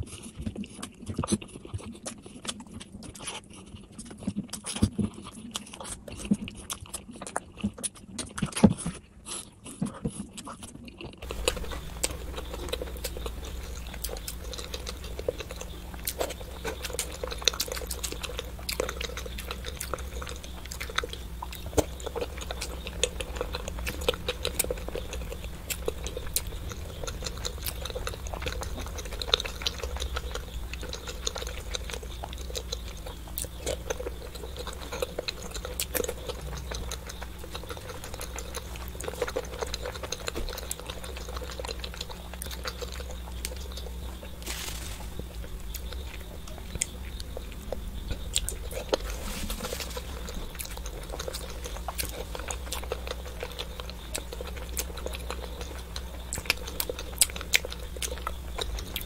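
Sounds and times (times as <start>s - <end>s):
wet chewing squelches: 0.0s - 59.0s
low hum: 11.2s - 59.0s.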